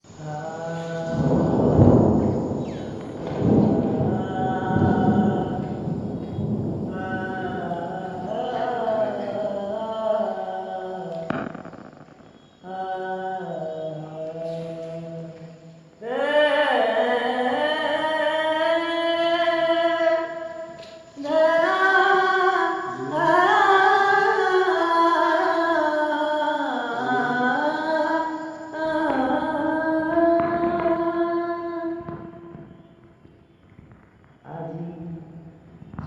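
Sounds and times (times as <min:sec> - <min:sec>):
person singing long held notes: 0:00.0 - 0:33.1.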